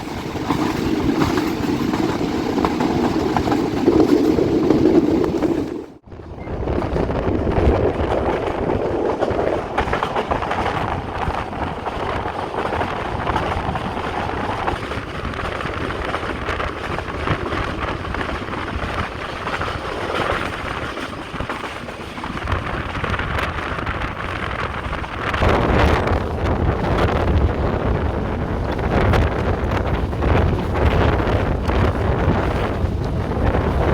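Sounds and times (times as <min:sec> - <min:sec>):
wheels clicking and knocking: 0:00.0 - 0:06.0, 0:06.6 - 0:33.9
train rumble and rattle: 0:00.0 - 0:33.9
wind buffeting microphone: 0:00.0 - 0:33.9.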